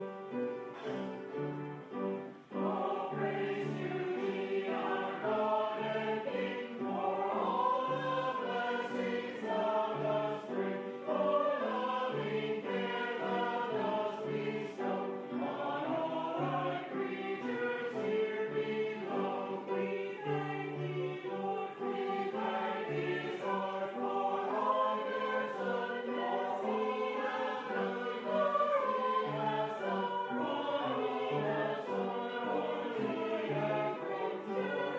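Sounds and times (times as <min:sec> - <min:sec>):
choir singing sacred music: 0:00.0 - 0:34.9.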